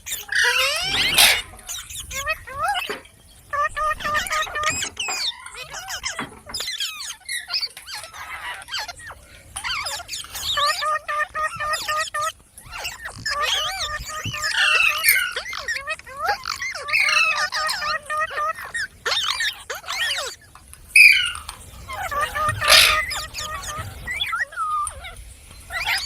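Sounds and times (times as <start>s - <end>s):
parrot chirping and squawking: 0.0s - 26.0s.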